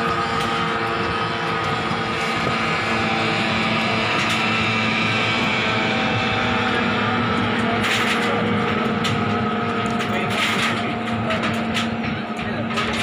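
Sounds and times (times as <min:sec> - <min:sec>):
higher whine: 0:00.0 - 0:13.0
outboard motor running: 0:00.0 - 0:13.0
wind and water noise: 0:00.0 - 0:13.0.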